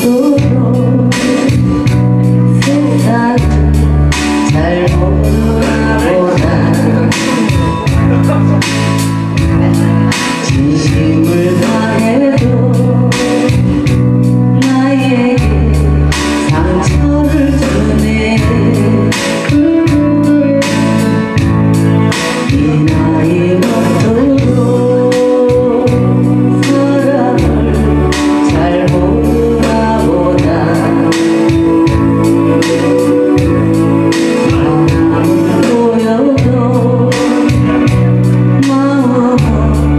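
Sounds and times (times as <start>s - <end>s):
amplified backing music with beat: 0.0s - 39.9s
woman singing into a microphone: 0.0s - 39.9s.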